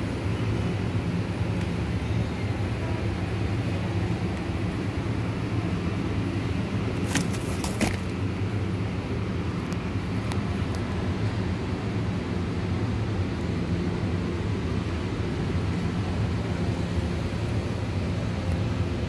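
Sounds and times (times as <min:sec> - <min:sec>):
refrigerated display humming: 0:00.0 - 0:19.0.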